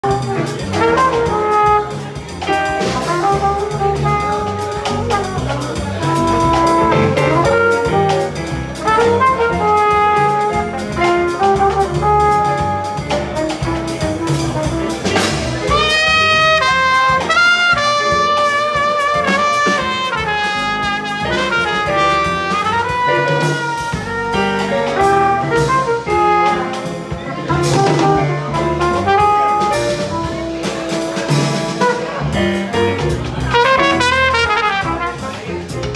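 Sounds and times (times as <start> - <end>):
drums: 0.0 - 35.9
trumpet: 0.0 - 35.9
walking double bass: 0.0 - 35.9.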